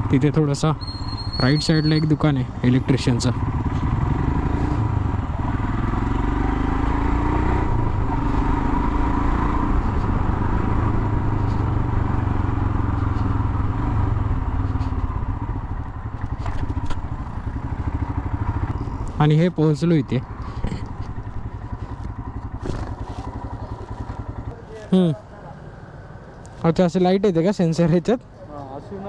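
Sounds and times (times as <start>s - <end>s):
motorcycle engine running: 0.0s - 25.2s
road and wind noise: 0.0s - 29.0s.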